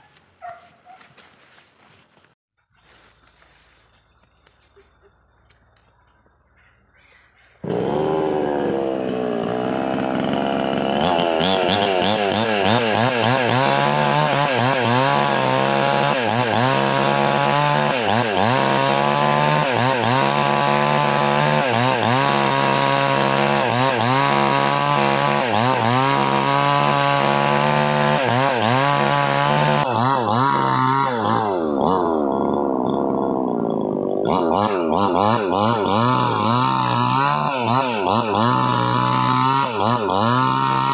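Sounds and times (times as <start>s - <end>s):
chainsaw cutting wood: 7.6s - 40.9s.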